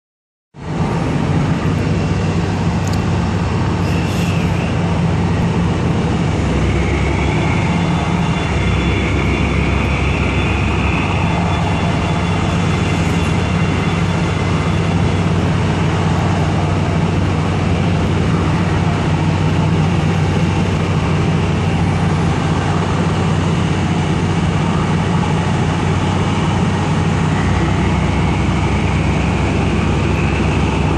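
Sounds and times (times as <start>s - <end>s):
faint rising whine: 0.6s - 30.9s
heavy machinery drone: 0.6s - 30.9s.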